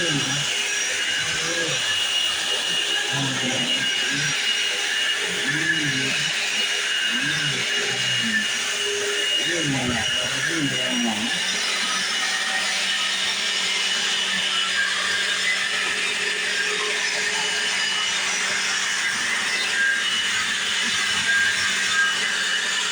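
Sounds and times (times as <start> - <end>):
vacuum cleaner running on a rug: 0.0 - 22.9.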